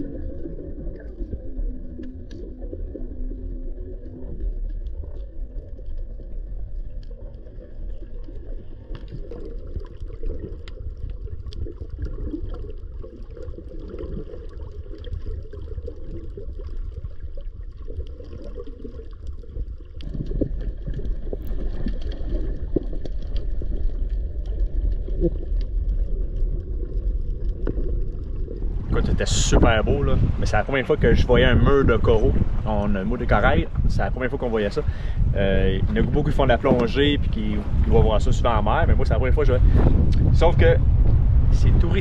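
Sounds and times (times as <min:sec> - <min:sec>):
faint underwater clicks: 0:00.0 - 0:42.0
underwater water rumble: 0:00.0 - 0:42.0.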